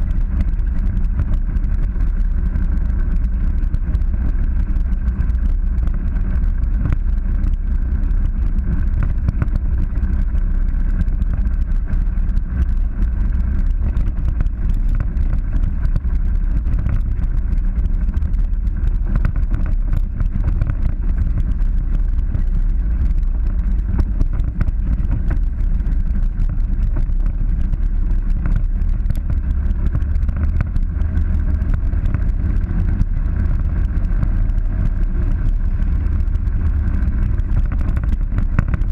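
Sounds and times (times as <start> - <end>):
muffled low engine rumble: 0.0 - 38.9
small clicks and knocks: 0.2 - 38.9.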